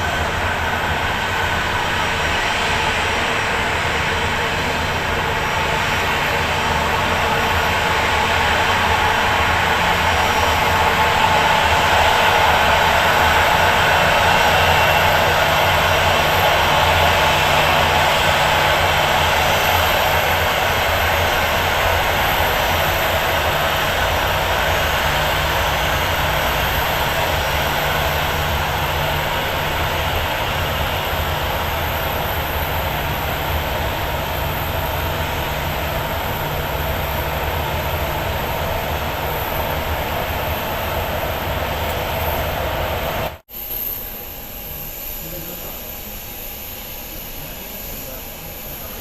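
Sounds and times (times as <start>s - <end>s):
airliner engines running: 0.0s - 49.0s.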